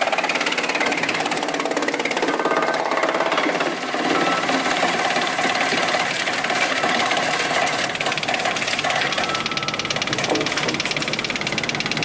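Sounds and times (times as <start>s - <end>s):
wood chipper rattling: 0.0s - 12.0s.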